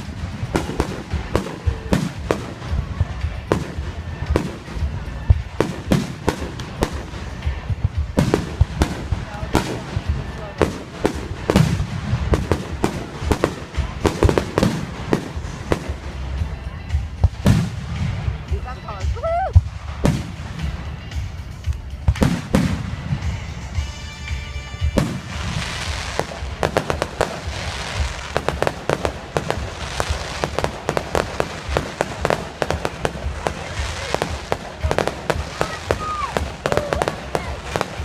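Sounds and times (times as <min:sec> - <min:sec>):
fireworks bangs: 0:00.0 - 0:24.0, 0:24.8 - 0:38.0
firecrackers popping: 0:00.0 - 0:38.0.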